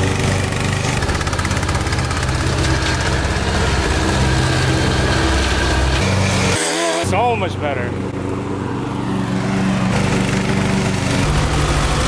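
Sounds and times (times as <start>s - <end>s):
lawn tractor engine mowing: 0.0s - 12.0s.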